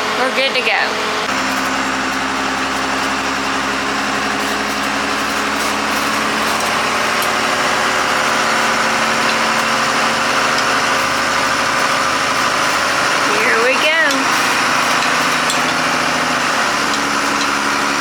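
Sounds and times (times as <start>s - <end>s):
bus engine idling: 0.0s - 18.0s
heater hissing: 1.0s - 18.0s.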